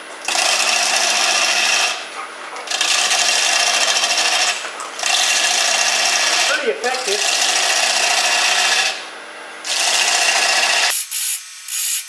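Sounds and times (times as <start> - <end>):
lathe cutter scraping wood: 0.0 - 10.9.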